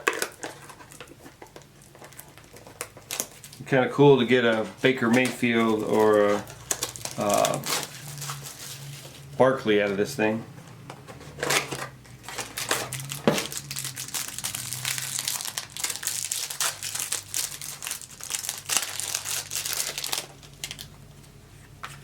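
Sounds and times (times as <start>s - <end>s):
plastic wrapping crinkling: 0.0s - 9.4s, 11.4s - 21.2s.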